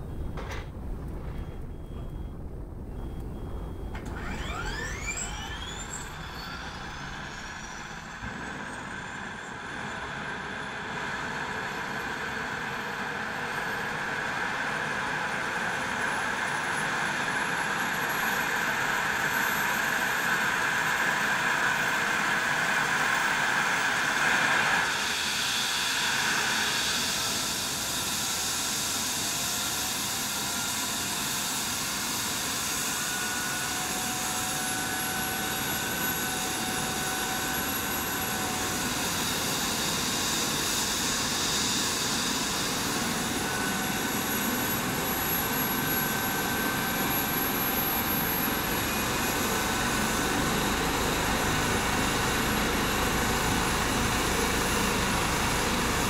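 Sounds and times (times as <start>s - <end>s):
turbine whine rising in pitch: 0.0s - 12.9s, 22.2s - 56.0s
helicopter turbine rush: 0.0s - 56.0s.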